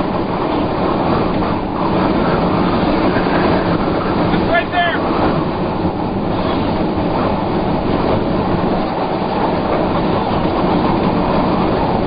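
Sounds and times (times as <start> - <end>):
tornado wind rushing: 0.0 - 12.0.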